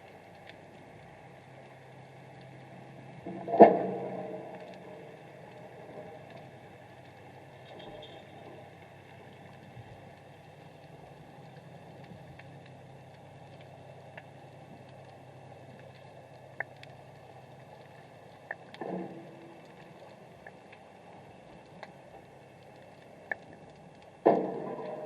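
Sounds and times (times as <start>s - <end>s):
underwater hum and hiss: 0.0s - 25.0s.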